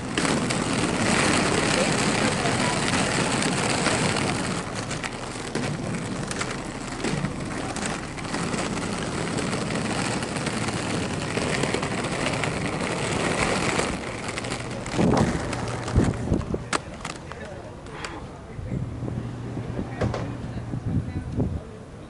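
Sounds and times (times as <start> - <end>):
skate wheels rolling on asphalt: 0.0 - 22.0.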